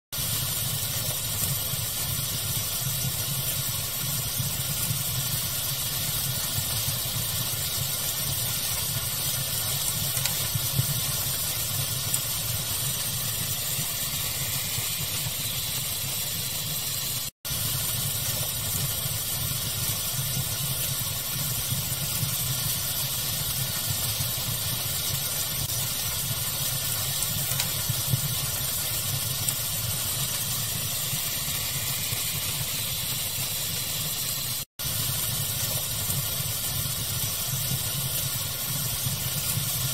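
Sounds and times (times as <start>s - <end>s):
fire crackling and popping: 0.1s - 39.9s
steady hiss: 0.2s - 39.9s.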